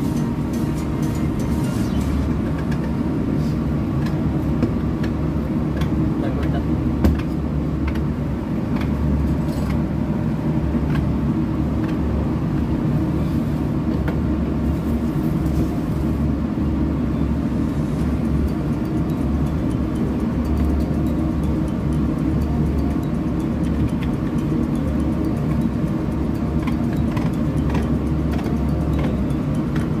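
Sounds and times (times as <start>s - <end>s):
machinery low drone: 0.0s - 30.0s.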